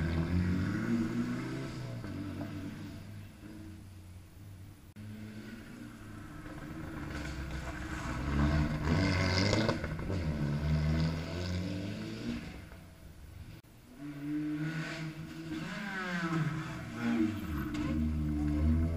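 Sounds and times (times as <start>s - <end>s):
rally car engine revving: 0.0s - 4.2s, 5.0s - 18.9s.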